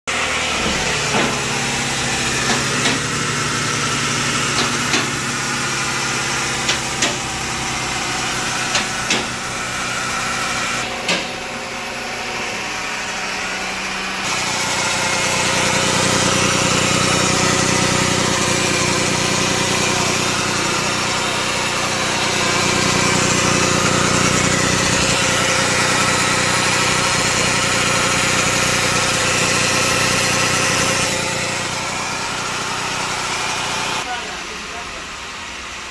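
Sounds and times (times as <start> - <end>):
car engine running: 0.1 - 35.9
transmission pump whine: 0.1 - 35.9.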